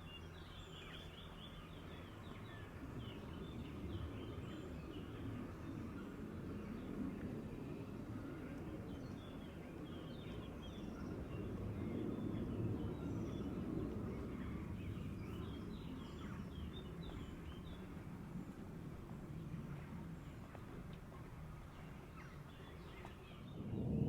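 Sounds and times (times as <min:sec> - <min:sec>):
low outdoor rumble: 0:00.0 - 0:24.0
small birds chirping: 0:00.0 - 0:24.0.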